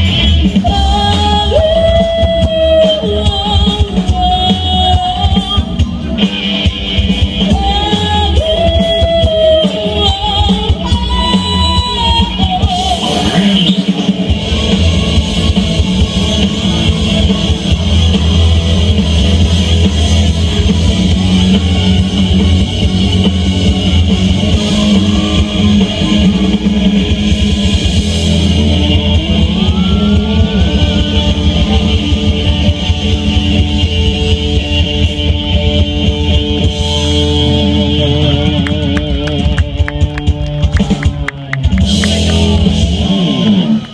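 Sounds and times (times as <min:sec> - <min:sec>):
drum kit: 0:00.0 - 0:43.9
electric guitar: 0:00.0 - 0:43.9
live pop-rock band through pa: 0:00.0 - 0:43.9.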